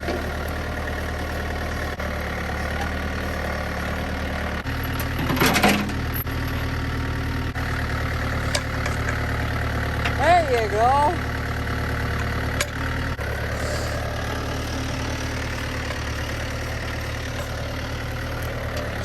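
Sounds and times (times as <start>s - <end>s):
loader engine running: 0.0s - 19.0s.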